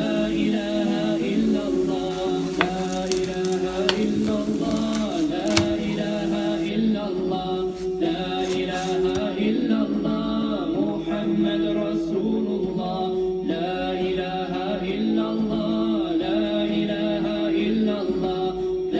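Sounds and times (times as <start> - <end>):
a cappella chant: 0.0 - 18.9.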